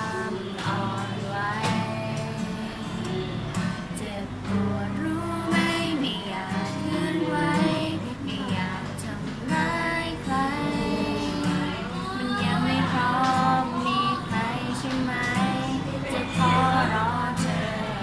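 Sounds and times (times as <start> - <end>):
acoustic guitar: 0.0 - 18.0
young women singing together: 0.0 - 18.0.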